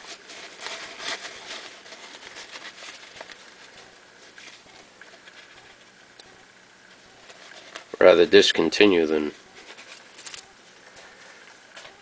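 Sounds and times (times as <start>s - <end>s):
paper towel rustling and crinkling: 0.0s - 6.0s, 7.0s - 12.0s.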